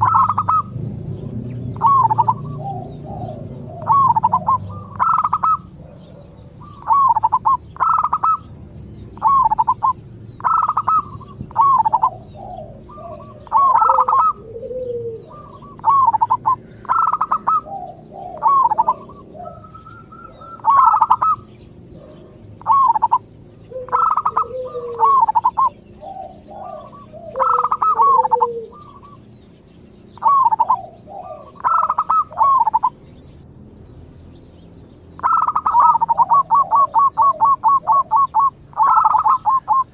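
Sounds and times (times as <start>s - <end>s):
dove cooing: 0.0s - 33.0s, 35.2s - 39.9s.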